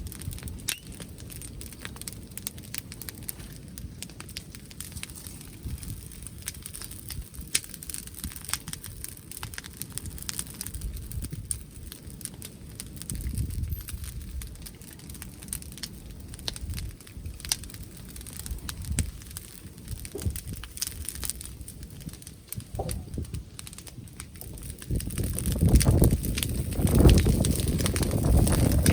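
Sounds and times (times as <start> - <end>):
bonfire crackling and popping: 0.0 - 28.9
wind rumbling on microphone: 0.0 - 28.9.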